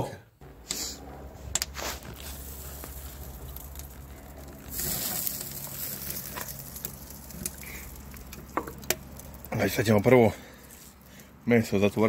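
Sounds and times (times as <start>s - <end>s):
steady low rumble: 0.4s - 12.0s
wood fire crackling: 0.4s - 12.0s.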